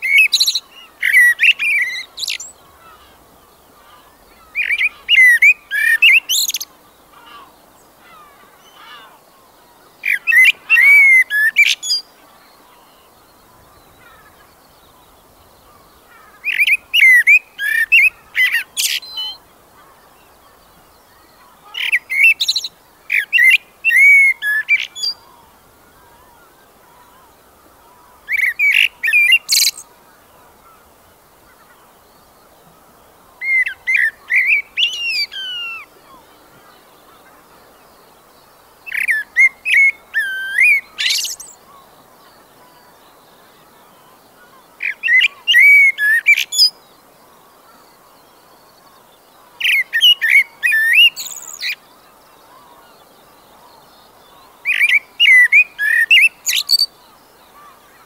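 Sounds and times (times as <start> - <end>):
faint outdoor hiss: 0.0 - 58.0
songbird singing whistled notes: 0.0 - 58.0.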